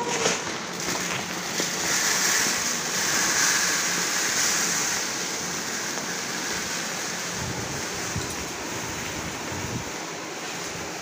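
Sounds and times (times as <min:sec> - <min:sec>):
rice pouring into container: 0:00.0 - 0:11.0.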